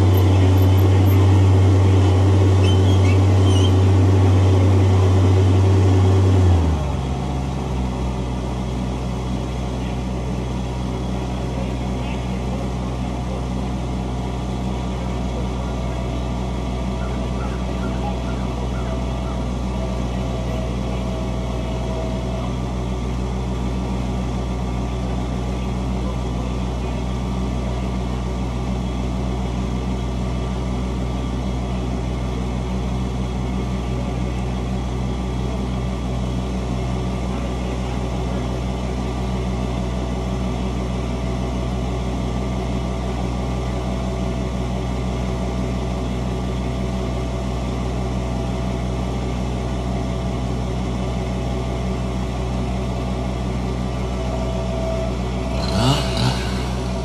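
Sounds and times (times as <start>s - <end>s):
loader engine idling: 0.0s - 57.0s.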